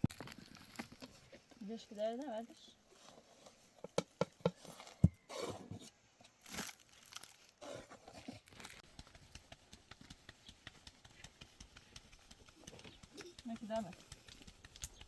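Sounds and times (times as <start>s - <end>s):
rustling handling noises: 0.0s - 15.0s.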